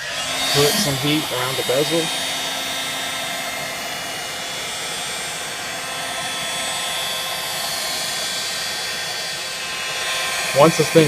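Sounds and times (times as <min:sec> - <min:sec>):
hot-air gun blowing: 0:00.0 - 0:11.0.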